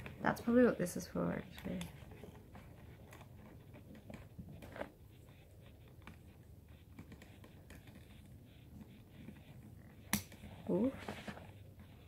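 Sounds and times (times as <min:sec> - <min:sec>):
soft rustling: 0:00.0 - 0:12.0.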